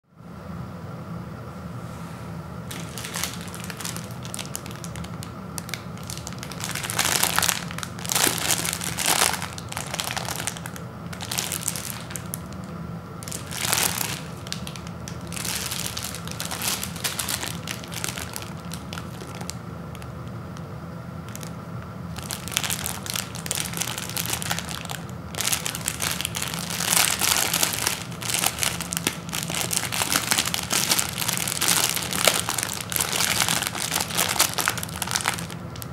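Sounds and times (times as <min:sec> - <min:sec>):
plastic wrapper crinkling: 0:02.7 - 0:20.3, 0:21.2 - 0:35.9.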